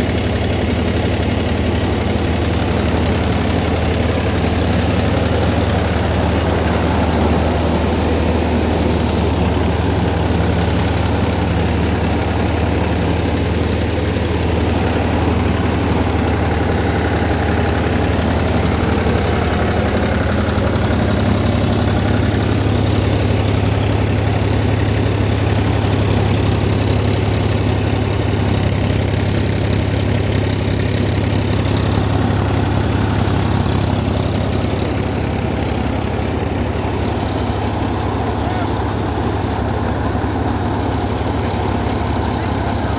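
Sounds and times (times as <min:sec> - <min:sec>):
diesel tractor engine running: 0:00.0 - 0:42.9
thresher whirring: 0:00.0 - 0:42.9.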